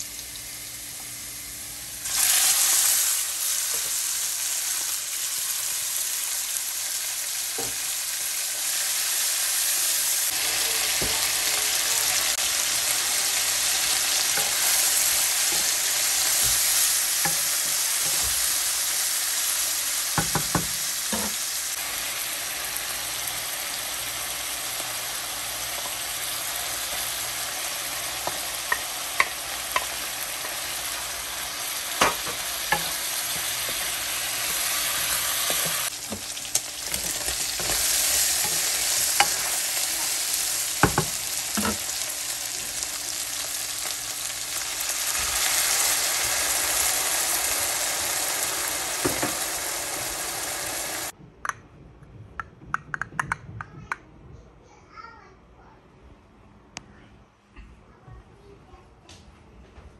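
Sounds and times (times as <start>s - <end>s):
meat sizzling in a frying pan: 0.0s - 51.2s.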